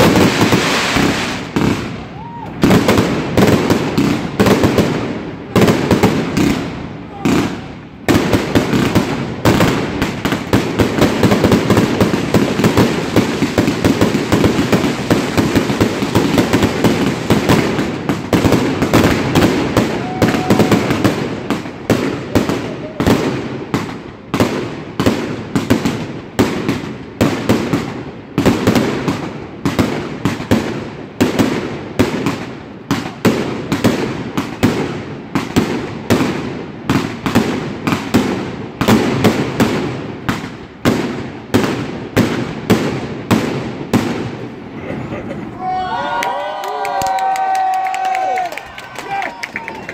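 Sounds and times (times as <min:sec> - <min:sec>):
fireworks bangs: 0:00.0 - 0:45.6
fireworks barrage: 0:00.0 - 0:45.6.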